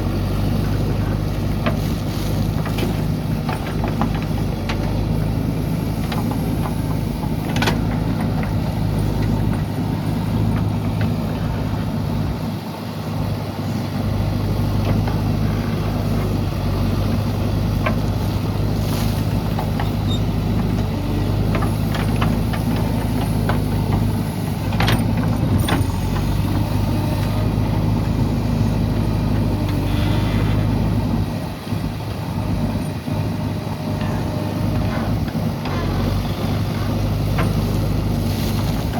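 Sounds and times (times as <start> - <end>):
diesel engine running steadily: 0.0 - 38.9
digger loading dry soil: 0.0 - 38.9.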